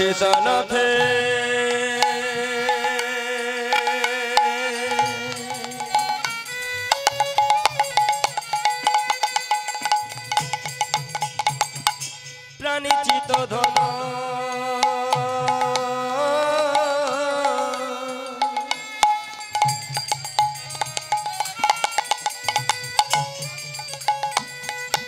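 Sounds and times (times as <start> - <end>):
hand-drum strokes: 0.0 - 25.0
held melody line: 0.0 - 25.0
small cymbal clashes: 0.0 - 25.0.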